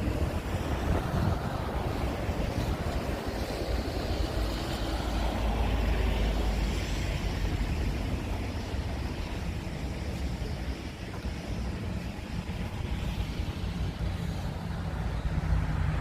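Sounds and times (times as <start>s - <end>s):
rushing noise: 0.0s - 16.0s
wind rumbling on microphone: 0.0s - 16.0s.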